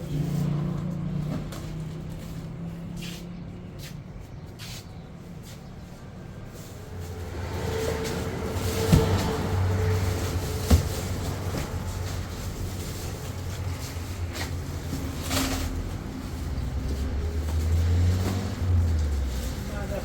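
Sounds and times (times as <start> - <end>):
engine humming: 0.0 - 20.0
lower engine hum: 0.0 - 20.0.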